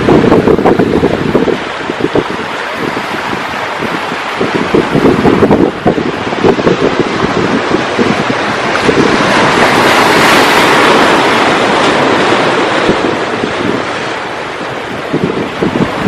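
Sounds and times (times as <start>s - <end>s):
ocean wave breaking: 0.0s - 16.0s
wind buffeting microphone: 0.0s - 16.0s.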